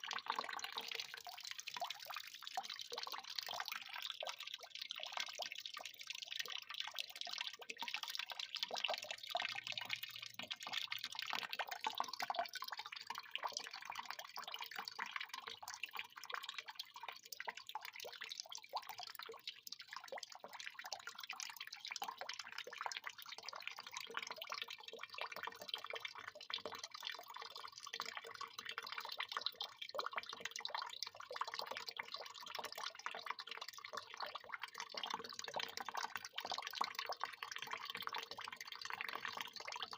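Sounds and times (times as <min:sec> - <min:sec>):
water pouring into water: 0:00.0 - 0:39.9.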